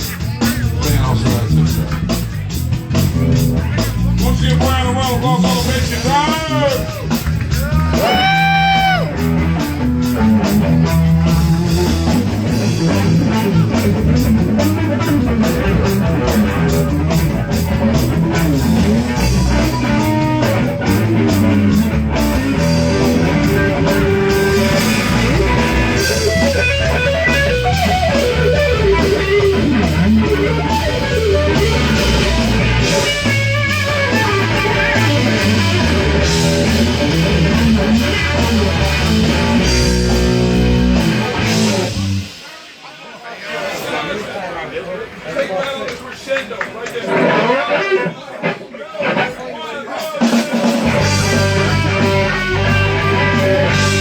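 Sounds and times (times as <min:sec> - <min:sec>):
bass guitar: 0:00.0 - 0:42.4, 0:50.6 - 0:54.0
electric guitar lines: 0:00.0 - 0:42.4, 0:50.6 - 0:54.0
drums: 0:00.0 - 0:54.0.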